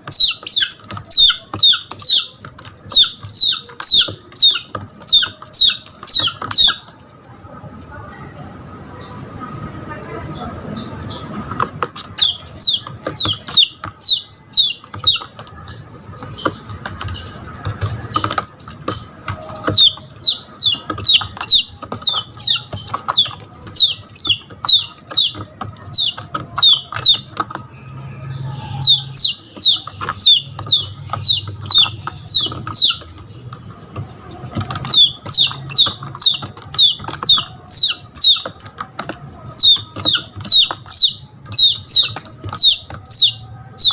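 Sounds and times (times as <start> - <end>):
chick distress peeps: 0.0 - 7.4, 12.0 - 33.2, 34.6 - 43.9.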